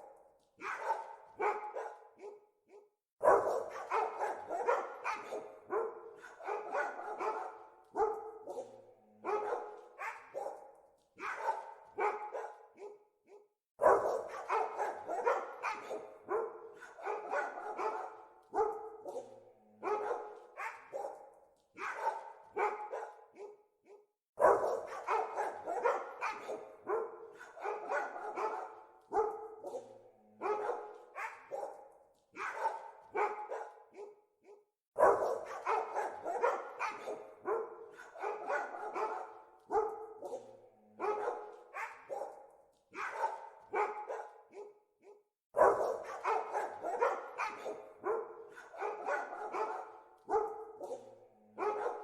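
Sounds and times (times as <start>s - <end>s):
dogs barking: 0.0s - 52.0s.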